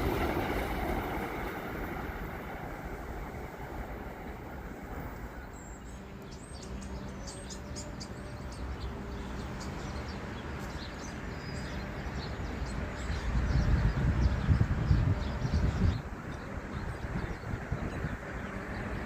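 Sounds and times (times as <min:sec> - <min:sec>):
small birds chirping: 0:03.4 - 0:19.0.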